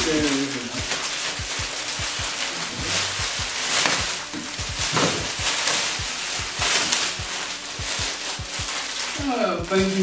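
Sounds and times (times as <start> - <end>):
background music: 0.0 - 10.0
gift wrapping rustling: 0.0 - 10.0.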